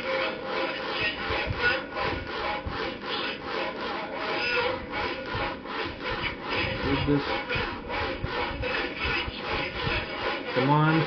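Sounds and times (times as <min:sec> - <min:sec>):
hands rubbing cloth: 0:00.0 - 0:11.0.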